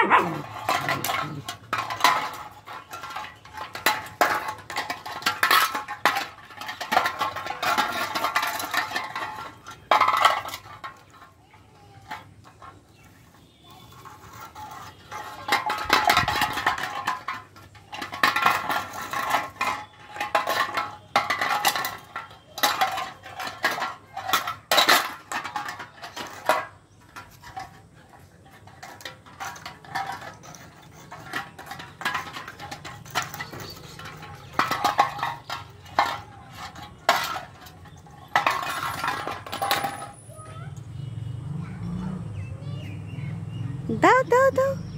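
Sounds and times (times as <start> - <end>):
chain clinking on concrete: 0.0 - 44.9.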